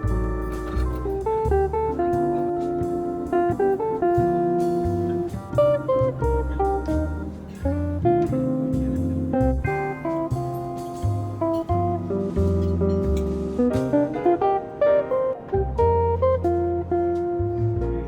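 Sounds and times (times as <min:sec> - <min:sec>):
relaxed jazz guitar and bass: 0:00.0 - 0:18.0.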